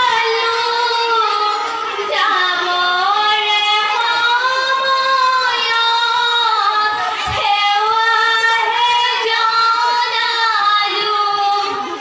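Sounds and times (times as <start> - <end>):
girls singing together unaccompanied: 0.0 - 12.0.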